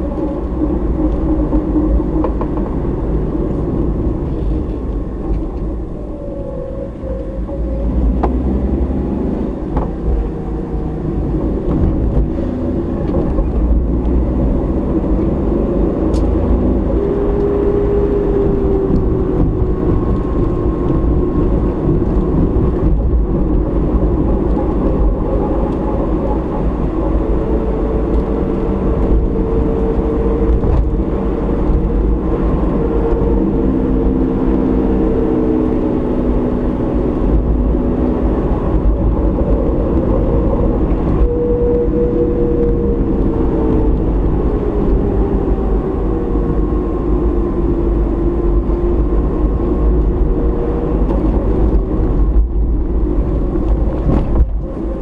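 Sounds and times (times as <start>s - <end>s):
tyres and engine rumble: 0.0s - 55.0s.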